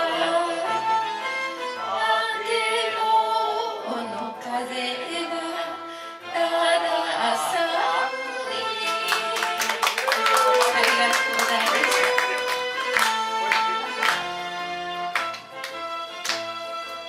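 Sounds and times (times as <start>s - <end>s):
karaoke backing music: 0.0s - 17.0s.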